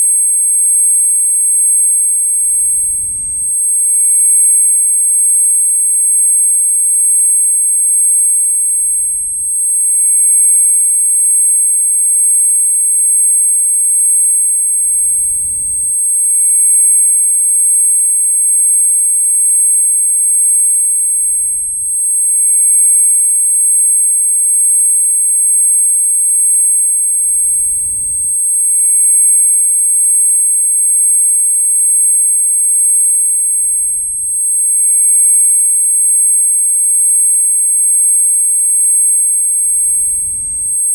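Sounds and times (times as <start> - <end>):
high-pitched steady whine: 0.0 - 40.9.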